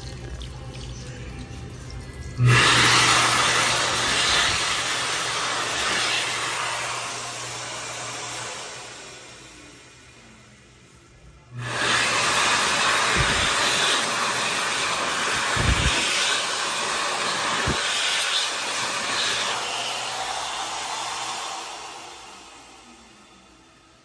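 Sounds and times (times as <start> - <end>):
hand dryer blowing air: 2.4 - 10.5, 11.5 - 24.0.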